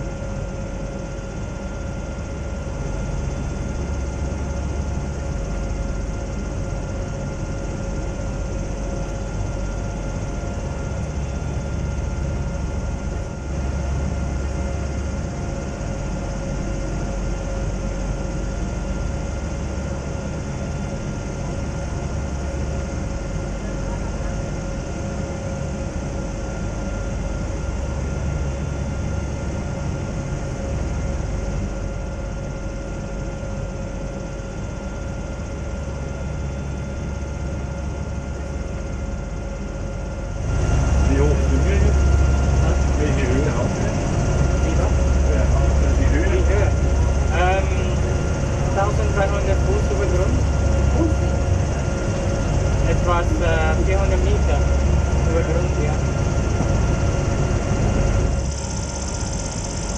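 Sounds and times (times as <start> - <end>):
airship engines and propellers droning: 0.0 - 59.9.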